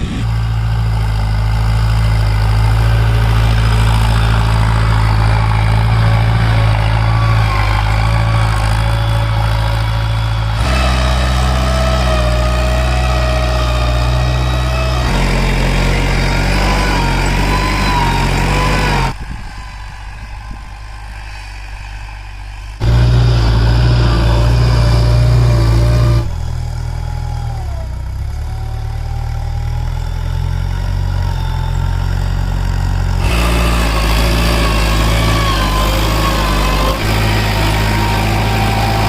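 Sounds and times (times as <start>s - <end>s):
tractor diesel engine running: 0.0s - 21.7s, 22.3s - 39.0s.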